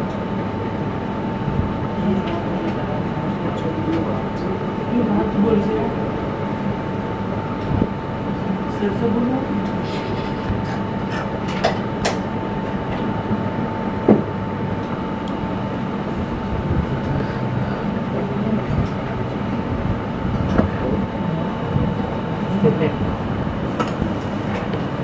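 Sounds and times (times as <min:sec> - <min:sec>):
rushing mechanical noise: 0:00.0 - 0:25.0
thin constant whine: 0:00.0 - 0:25.0.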